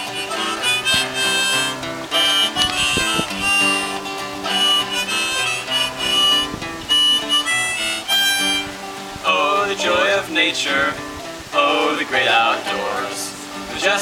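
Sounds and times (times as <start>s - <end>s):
guitar accompaniment: 0.0s - 14.0s
harmonica melody: 0.0s - 14.0s.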